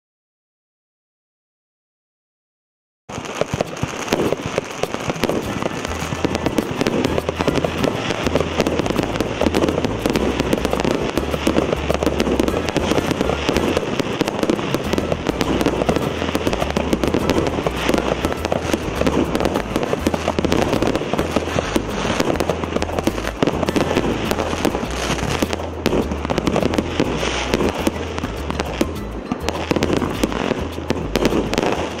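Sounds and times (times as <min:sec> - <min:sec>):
firework cake bangs and pops: 0:03.1 - 0:32.0.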